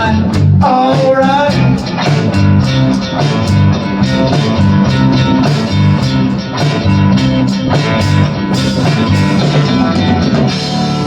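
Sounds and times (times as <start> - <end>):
guitars: 0.0 - 11.0
live rock band playing: 0.0 - 11.0
steady drum beat: 0.0 - 11.0.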